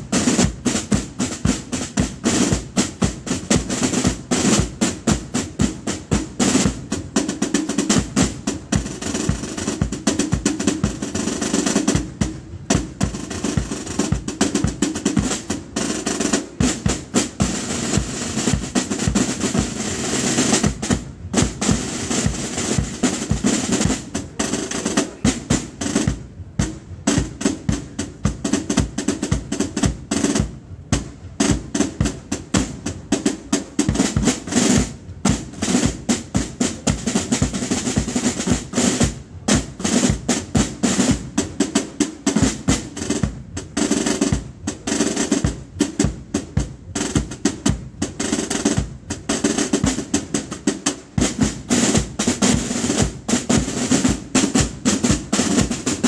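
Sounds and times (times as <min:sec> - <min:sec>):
snare drums playing drill rhythm: 0:00.0 - 0:56.0.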